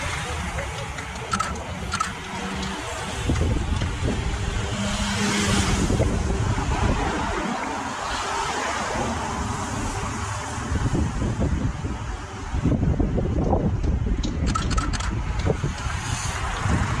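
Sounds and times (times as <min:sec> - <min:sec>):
cars driving past on wet road: 0:00.0 - 0:12.2, 0:15.0 - 0:17.0
wind rumble on microphone: 0:00.0 - 0:17.0.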